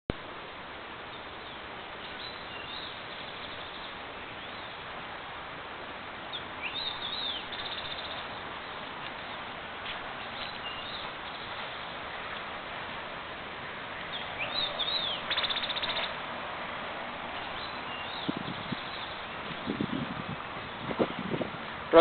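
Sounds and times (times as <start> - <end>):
steady hiss: 0.1 - 22.0
small birds chirping: 1.1 - 5.1, 6.2 - 12.7, 13.6 - 16.3, 17.2 - 22.0.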